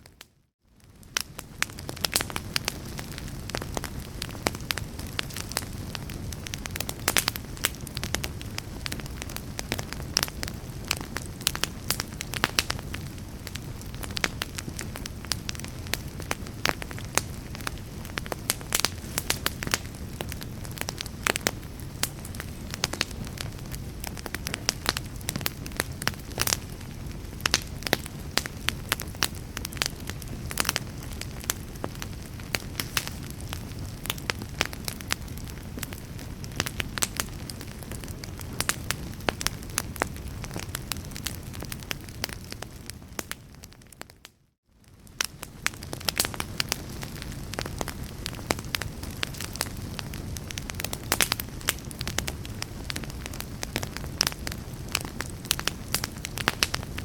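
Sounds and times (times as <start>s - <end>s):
low fire rumble: 0.1s - 57.0s
wood fire crackling and popping: 0.8s - 57.0s.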